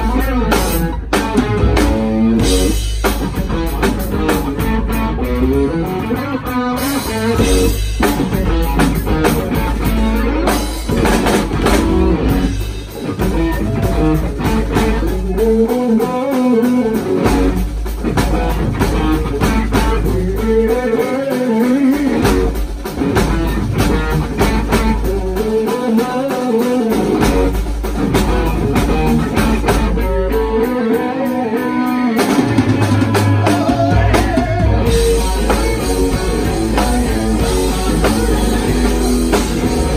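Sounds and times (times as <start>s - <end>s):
electric guitar riff: 0.0s - 39.9s
live rock band playing: 0.0s - 39.9s.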